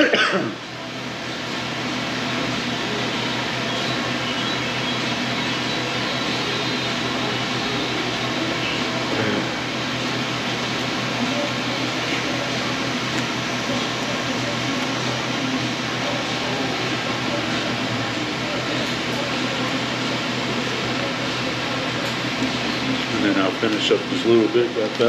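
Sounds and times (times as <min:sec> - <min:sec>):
ventilation fan hum: 0:00.0 - 0:25.0.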